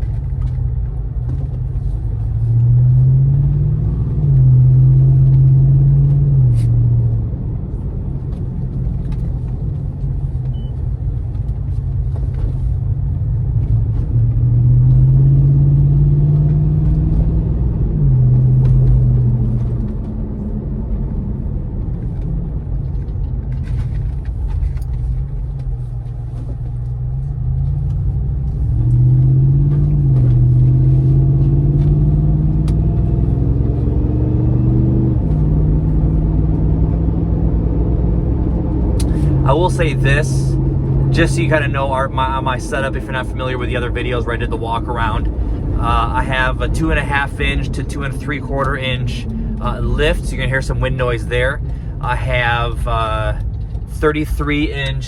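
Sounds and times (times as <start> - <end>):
exhaust rumble under acceleration: 0.0 - 55.0
road noise: 0.0 - 55.0.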